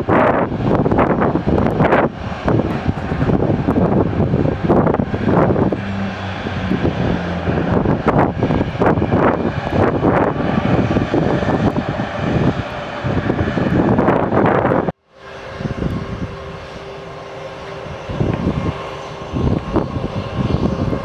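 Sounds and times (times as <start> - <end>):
airliner engines running: 0.0 - 21.0
low hum: 0.3 - 21.0.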